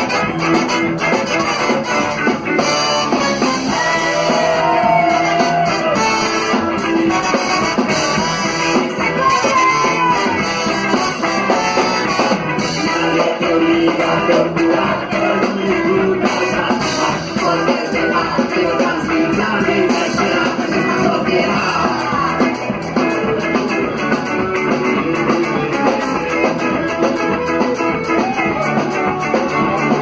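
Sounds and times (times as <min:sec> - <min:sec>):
rock music: 0:00.0 - 0:30.0.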